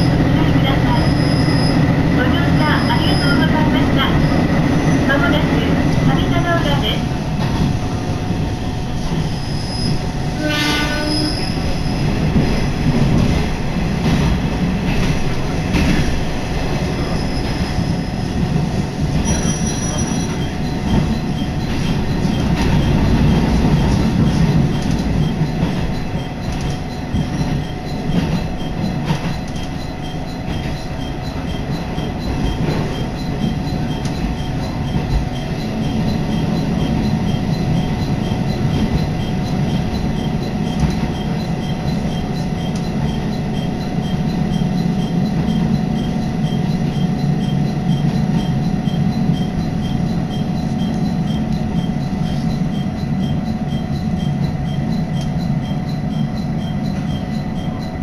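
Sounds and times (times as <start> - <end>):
railcar engine drone: 0.0 - 58.0
wheels rumbling on rails: 0.0 - 58.0.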